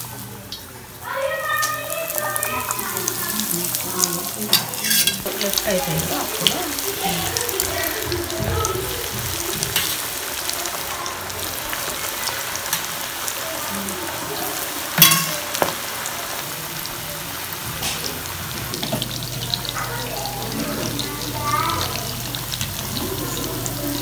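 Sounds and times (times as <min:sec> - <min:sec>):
food deep-frying in hot oil: 0:00.0 - 0:24.0.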